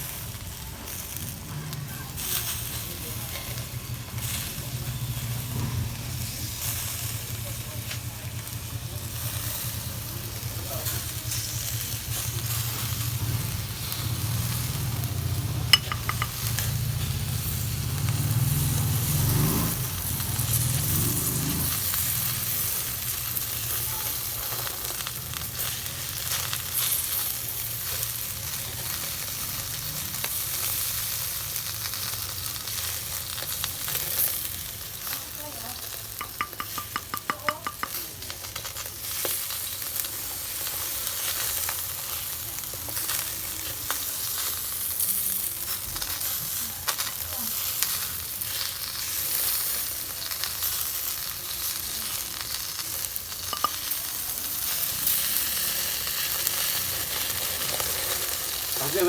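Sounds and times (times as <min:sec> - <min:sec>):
chicken sizzling on grill: 0:00.0 - 0:59.0.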